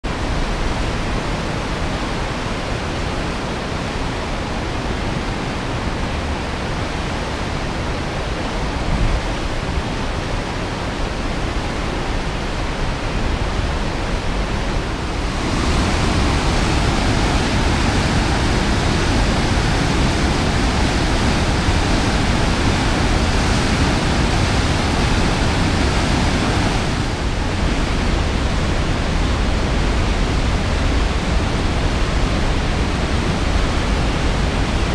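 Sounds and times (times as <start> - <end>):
water rushing: 0.0 - 34.9.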